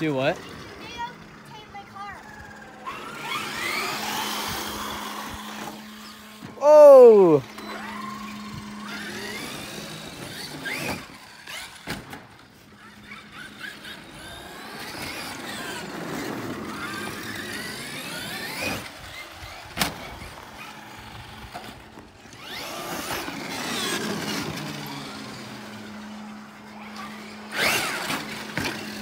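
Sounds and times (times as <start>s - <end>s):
electric toy truck motor whining: 0.4s - 29.0s.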